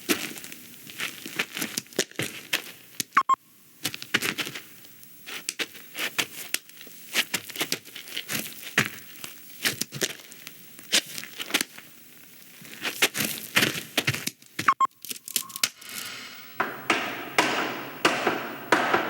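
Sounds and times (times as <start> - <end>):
irregular crackling and crinkling: 0.0 - 3.2, 3.8 - 16.1.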